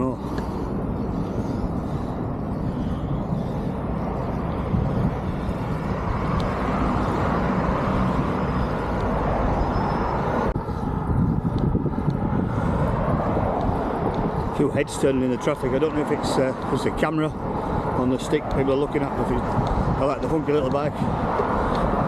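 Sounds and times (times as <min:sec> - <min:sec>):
road traffic passing: 0:00.0 - 0:22.0
wind rumbling on microphone: 0:00.0 - 0:22.0.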